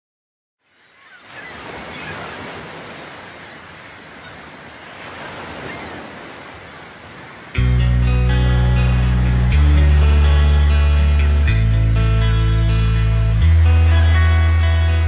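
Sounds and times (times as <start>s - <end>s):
waves breaking: 0.7s - 15.0s.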